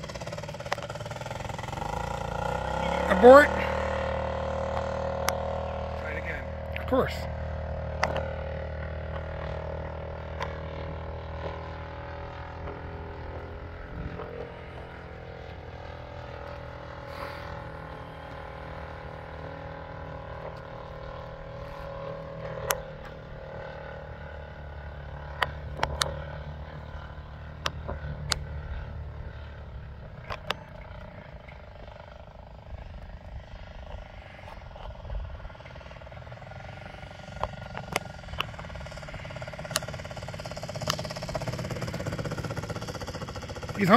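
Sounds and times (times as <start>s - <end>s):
model plane engine drone: 0.0s - 43.9s.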